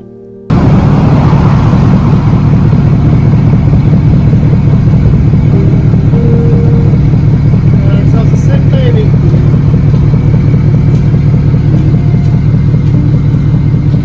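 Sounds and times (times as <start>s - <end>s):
farm vehicle engine droning: 0.5s - 14.0s.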